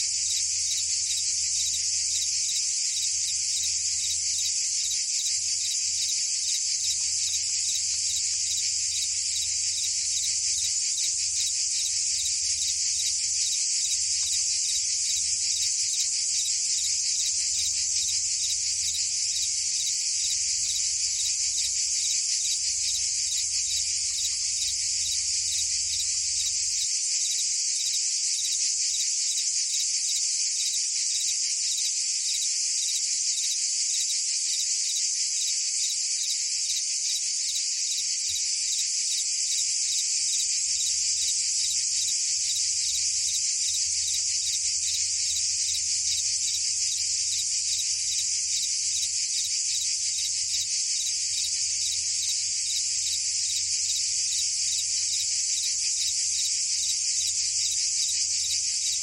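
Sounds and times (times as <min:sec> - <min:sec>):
cicadas and crickets chorus: 0:00.0 - 0:59.0.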